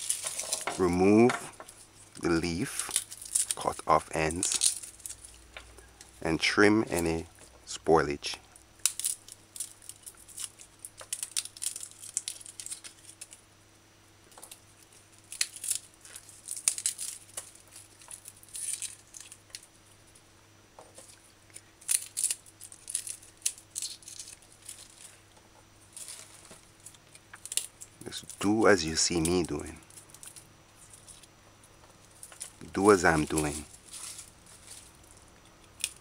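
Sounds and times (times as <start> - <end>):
garlic skins crackling: 0.0 - 13.5, 14.3 - 36.0.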